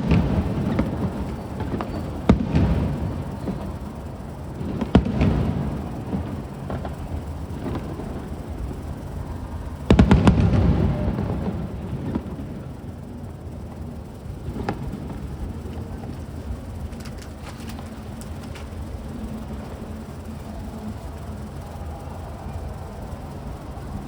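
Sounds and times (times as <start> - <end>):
fireworks shells bursting: 0.0 - 19.8.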